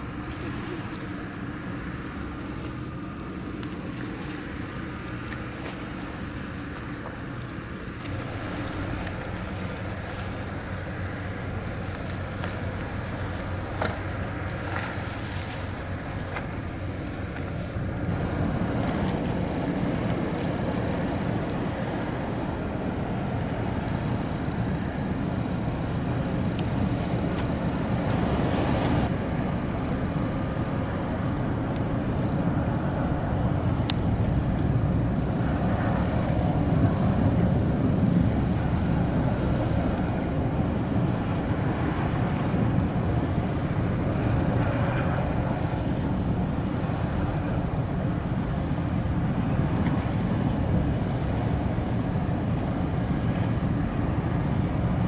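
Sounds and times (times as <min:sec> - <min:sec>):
ferry diesel engines rumbling: 0:00.0 - 0:55.0
wind on microphone: 0:00.0 - 0:55.0.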